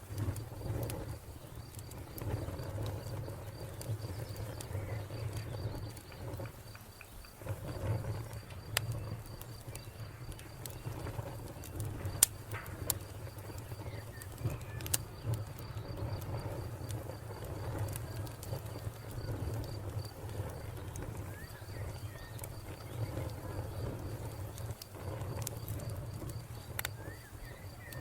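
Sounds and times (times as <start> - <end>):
wood fire crackling: 0.0 - 28.0
cricket chirping: 0.1 - 28.0.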